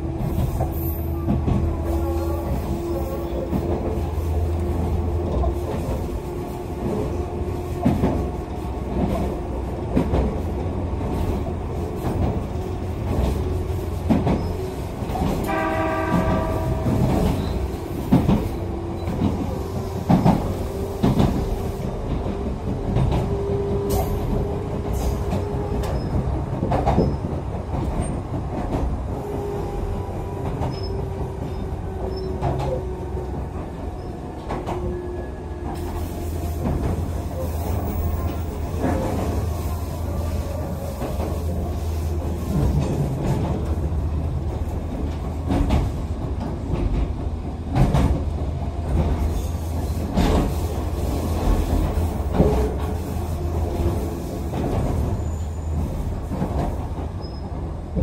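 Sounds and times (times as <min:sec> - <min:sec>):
train rumble and motor hum: 0:00.0 - 0:58.0.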